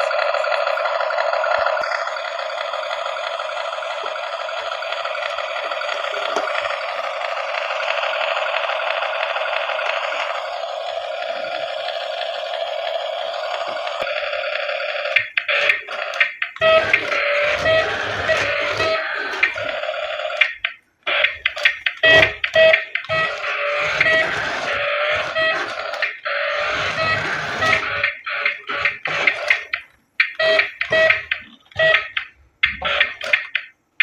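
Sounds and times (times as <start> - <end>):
tinny toy speaker sound effects: 0.0 - 12.6, 15.1 - 33.7.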